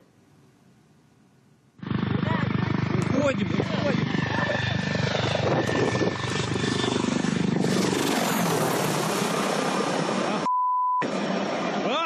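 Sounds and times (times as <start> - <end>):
helicopter engine tone: 1.8 - 12.0
helicopter rotor beating: 1.8 - 12.0.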